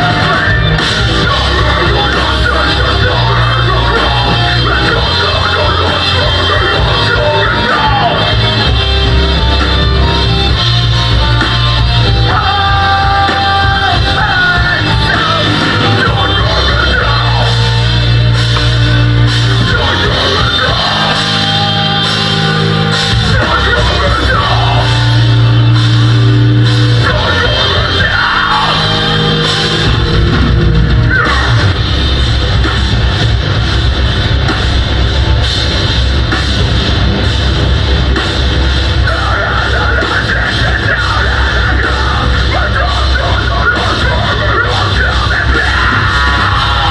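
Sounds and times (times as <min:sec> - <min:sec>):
drum kit: 0:00.0 - 0:46.9
heavy distorted guitars: 0:00.0 - 0:46.9
sustained low bass notes: 0:00.0 - 0:46.9.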